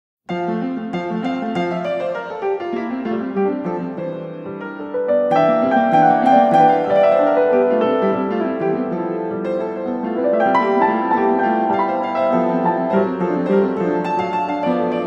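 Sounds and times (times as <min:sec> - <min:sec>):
piano music: 0:00.3 - 0:15.0.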